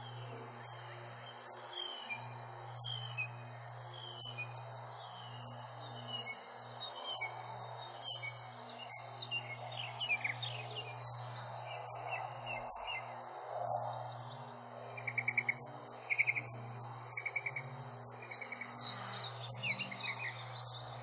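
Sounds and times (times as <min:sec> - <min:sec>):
birds singing: 0:00.0 - 0:13.2, 0:13.8 - 0:21.0
insects chirping: 0:00.0 - 0:21.0.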